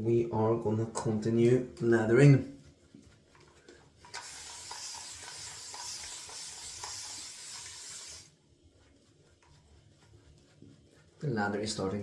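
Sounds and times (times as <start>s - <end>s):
shaving brush churning lather: 1.9s - 12.0s.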